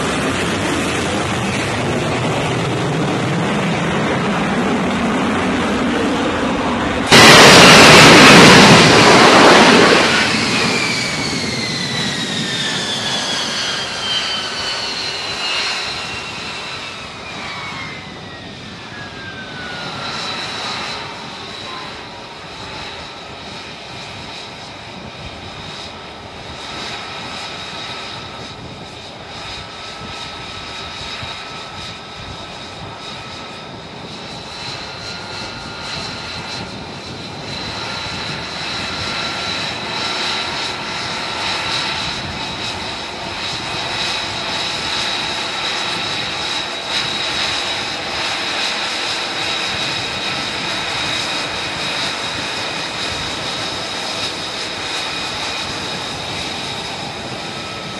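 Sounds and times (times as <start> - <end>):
jet engine and lift fan roaring: 0.0 - 57.9.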